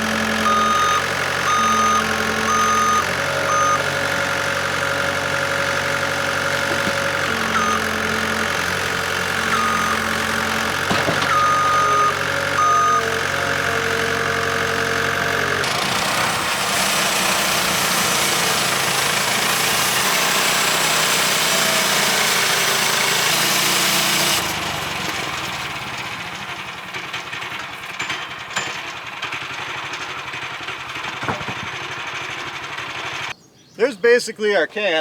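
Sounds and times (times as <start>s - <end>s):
sawmill engine under load: 0.0s - 33.4s.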